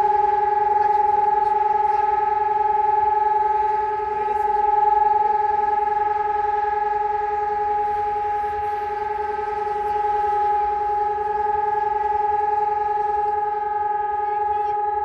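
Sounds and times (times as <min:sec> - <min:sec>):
steady siren tone: 0:00.0 - 0:15.0.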